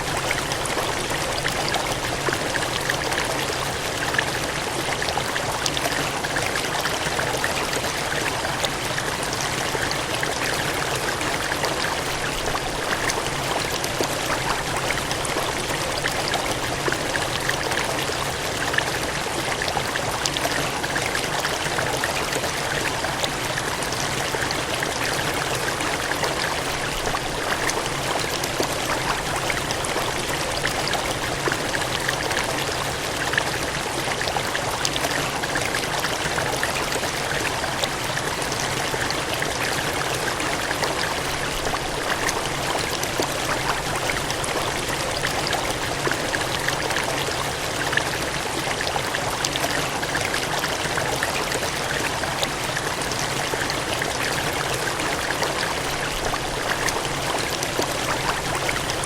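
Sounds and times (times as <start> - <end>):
water gushing and splashing: 0.0 - 59.0.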